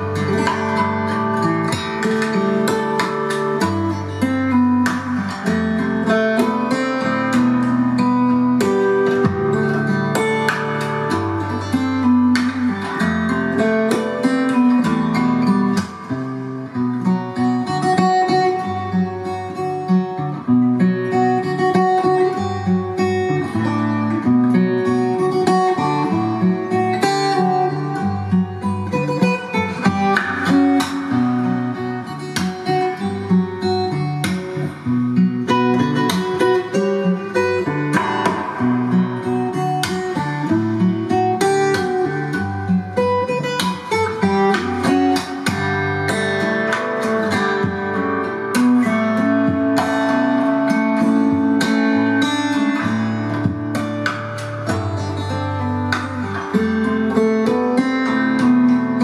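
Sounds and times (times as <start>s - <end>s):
guitar music over loudspeakers: 0.0s - 59.0s.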